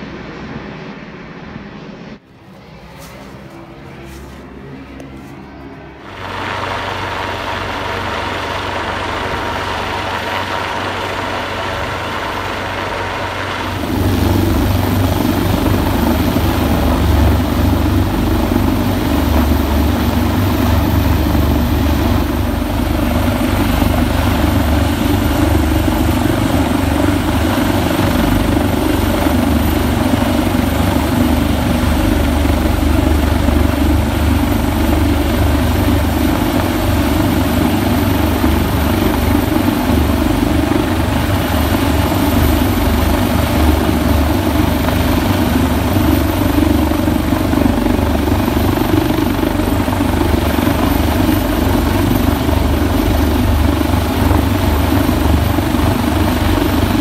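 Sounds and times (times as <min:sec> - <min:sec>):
helicopter rotor drone: 0:00.0 - 0:57.0.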